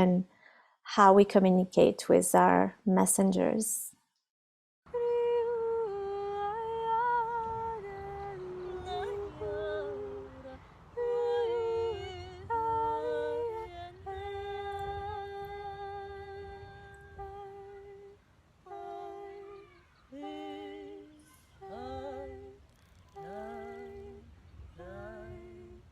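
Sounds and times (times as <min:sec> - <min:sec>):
faint low rumble: 0:04.9 - 0:25.9
person humming long notes: 0:05.0 - 0:25.9.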